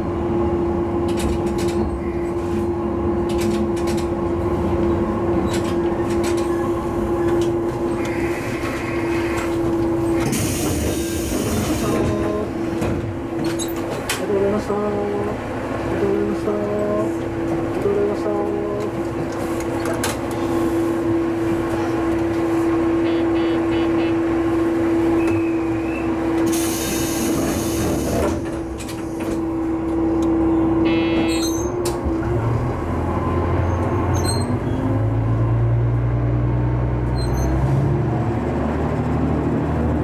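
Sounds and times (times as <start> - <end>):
diesel railcar drone and whine: 0.0 - 40.0.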